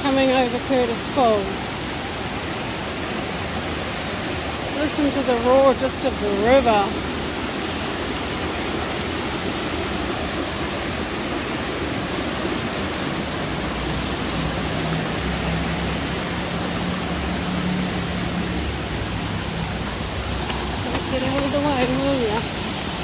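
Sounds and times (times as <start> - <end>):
creek rushing over boulders: 0.0 - 23.0.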